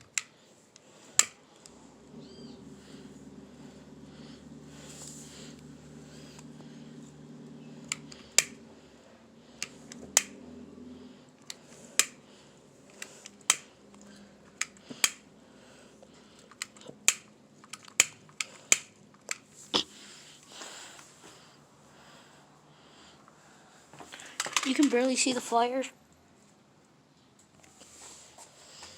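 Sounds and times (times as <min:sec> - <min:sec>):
low hum: 0:00.0 - 0:23.8.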